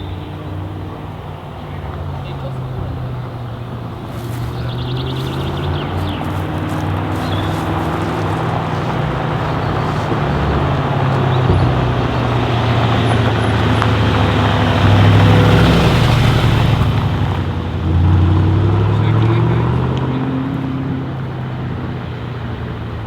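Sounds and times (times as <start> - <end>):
car engine deep exhaust note: 0.1 - 23.0.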